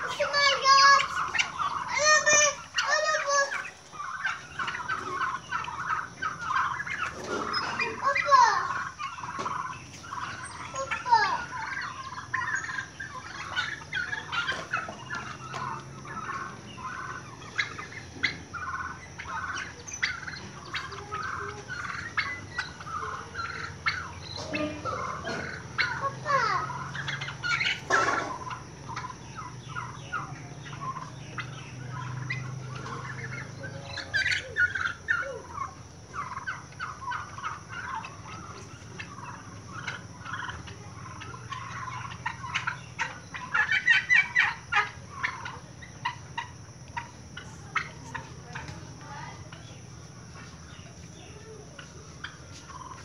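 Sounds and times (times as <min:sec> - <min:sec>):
turkeys calling and gobbling: 0:00.0 - 0:53.0.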